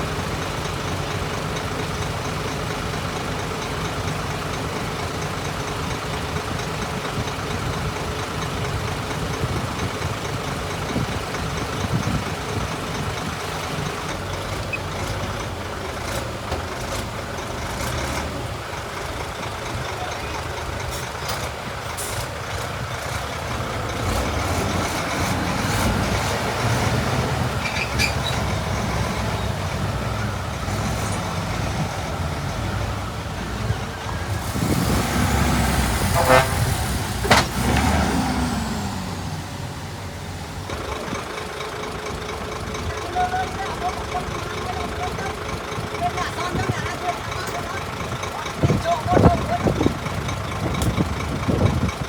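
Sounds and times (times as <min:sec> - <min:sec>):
diesel machinery engine rumble: 0:00.0 - 0:52.0.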